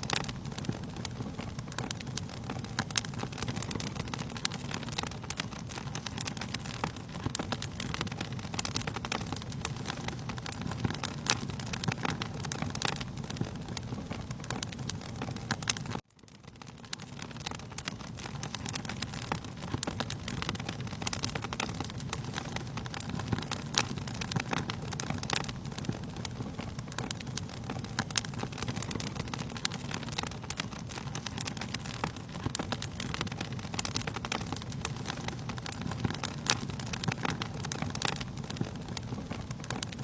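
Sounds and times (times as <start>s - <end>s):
fire crackling and popping: 0.0s - 40.0s
low rush of flames: 0.0s - 40.0s.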